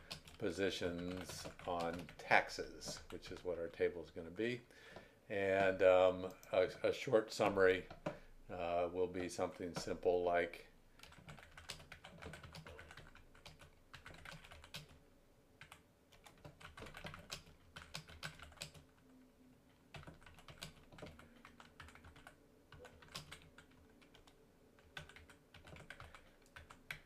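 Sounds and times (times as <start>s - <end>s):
faint keyboard typing: 0.0s - 3.9s, 4.9s - 6.8s, 7.4s - 10.1s, 10.9s - 15.0s, 15.6s - 27.0s.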